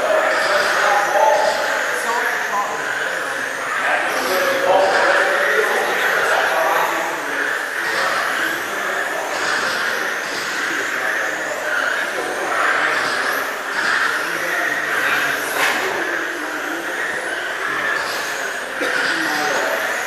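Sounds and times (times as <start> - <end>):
rc car motors whining: 0.0 - 20.0.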